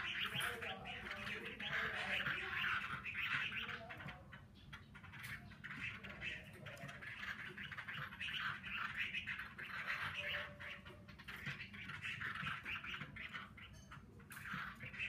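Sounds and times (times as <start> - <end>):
bird warbling song: 0.0 - 15.0.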